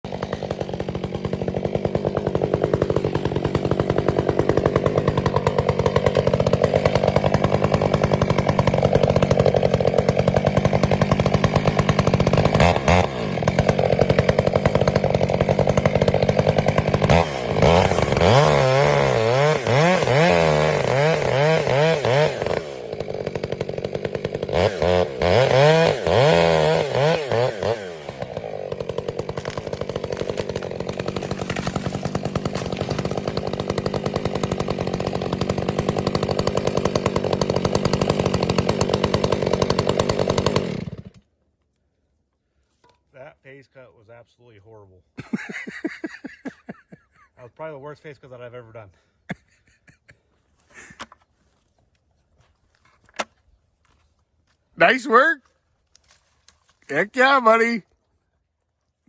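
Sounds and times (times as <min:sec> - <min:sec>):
chainsaw cutting and revving: 0:00.0 - 0:41.3, 0:45.2 - 0:50.1, 0:50.7 - 0:51.2, 0:54.8 - 0:55.5, 0:56.1 - 0:57.8.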